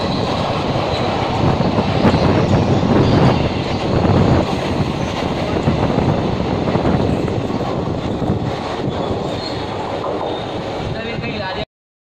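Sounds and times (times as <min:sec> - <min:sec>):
train coaches rushing past: 0:00.0 - 0:11.6.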